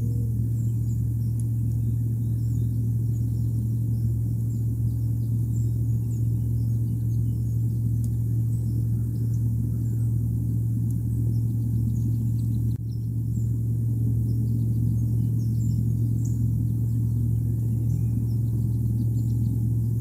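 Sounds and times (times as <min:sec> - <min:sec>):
low rumbling hum: 0:00.0 - 0:20.0.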